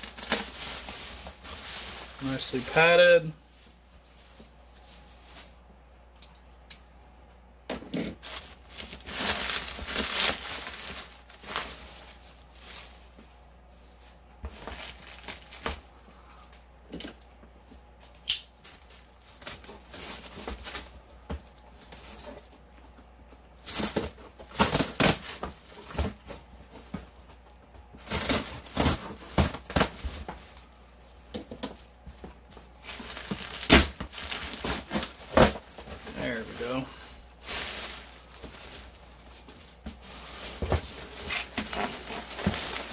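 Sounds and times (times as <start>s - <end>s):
bubble wrap crinkling: 0.0s - 5.7s, 8.2s - 16.6s, 17.9s - 42.9s.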